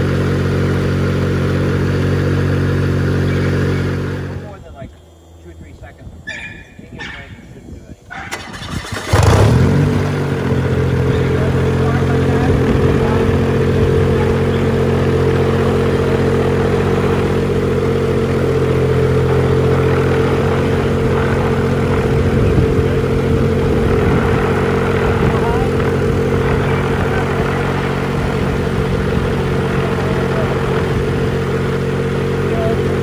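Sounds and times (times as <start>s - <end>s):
aircraft engine running steadily: 0.0s - 33.0s.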